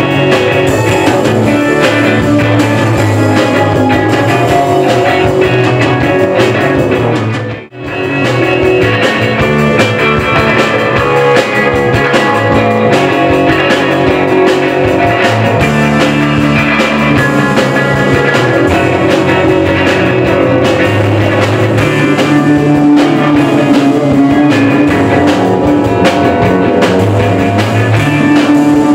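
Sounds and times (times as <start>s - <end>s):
distorted electric guitars: 0.0s - 28.9s
drum kit beats: 0.0s - 28.9s.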